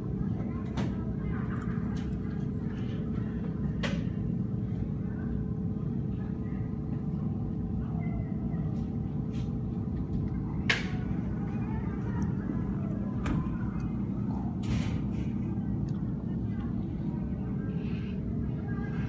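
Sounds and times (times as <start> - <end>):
blower fan humming: 0.0 - 19.0.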